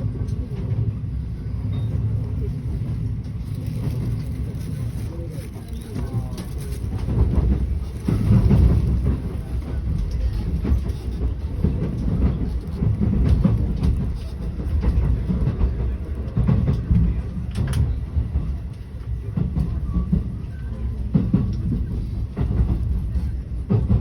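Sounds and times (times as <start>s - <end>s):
rail clicks: 0.0s - 24.0s
train rumble from inside car: 0.0s - 24.0s.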